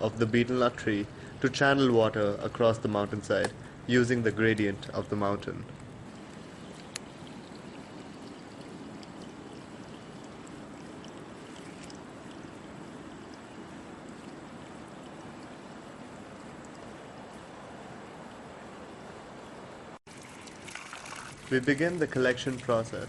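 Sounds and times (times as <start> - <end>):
water running: 1.6 - 23.0.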